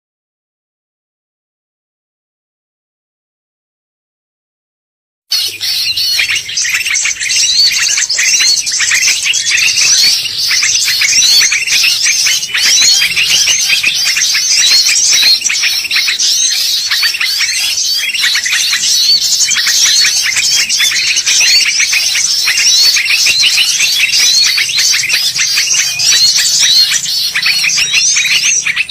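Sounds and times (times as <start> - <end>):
bird singing rapid chirps: 5.3 - 28.9.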